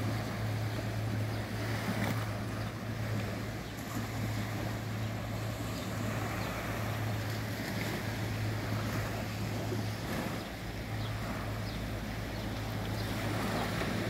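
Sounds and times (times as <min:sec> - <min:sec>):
constant low hum: 0:00.0 - 0:14.0
small waves washing on beach: 0:00.0 - 0:14.0.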